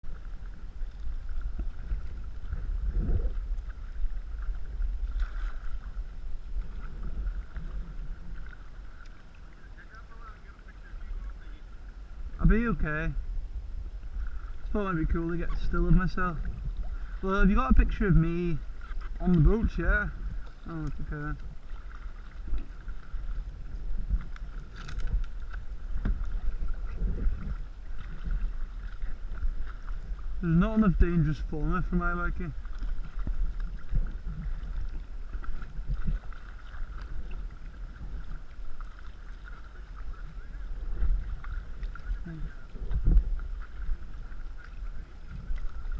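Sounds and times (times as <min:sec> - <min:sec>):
paddle in water: 0:00.0 - 0:45.9
steady low rumble: 0:00.0 - 0:45.9.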